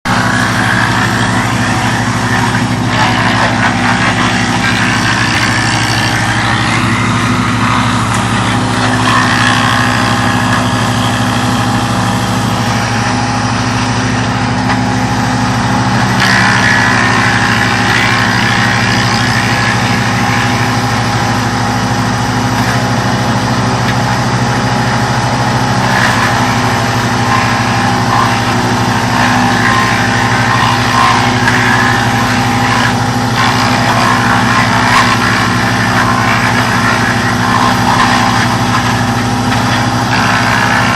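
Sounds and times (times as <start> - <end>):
wood chipper engine running: 0.0 - 40.9.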